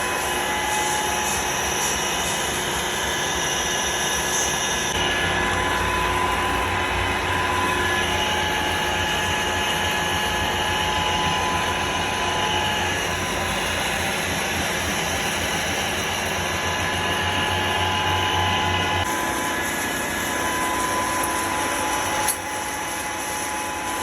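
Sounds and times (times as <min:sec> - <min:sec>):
metal lathe humming: 0:00.0 - 0:24.0.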